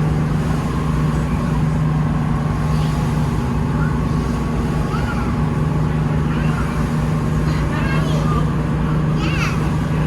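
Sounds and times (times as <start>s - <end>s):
boat engine drone: 0.0s - 10.0s
faint voices: 0.7s - 10.0s.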